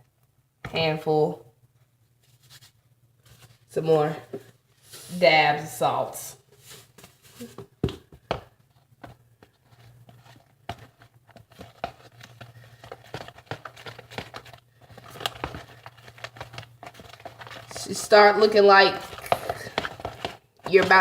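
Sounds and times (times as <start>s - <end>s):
hands kneading dough: 1.6s - 21.0s.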